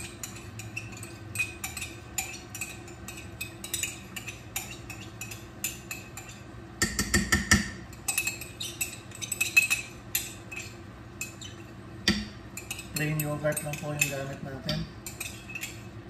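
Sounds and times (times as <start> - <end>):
spoon stirring in metal pot: 0.0 - 16.0.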